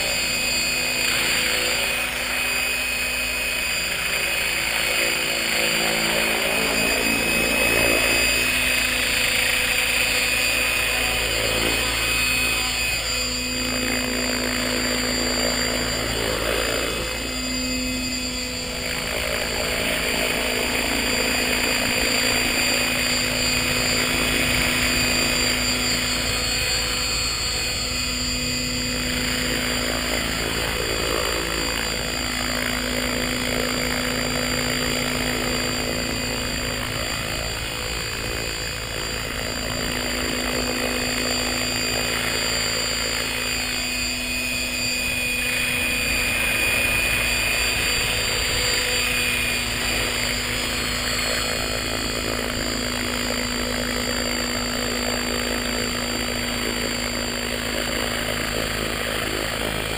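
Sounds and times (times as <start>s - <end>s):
model helicopter rotor whine: 0.0s - 59.9s.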